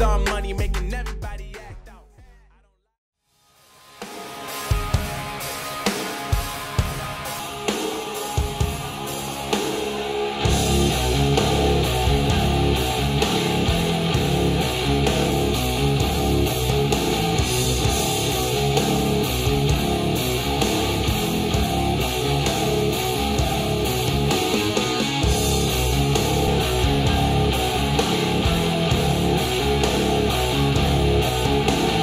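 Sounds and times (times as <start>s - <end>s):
rock music through speakers: 0.0s - 2.4s, 3.6s - 32.0s.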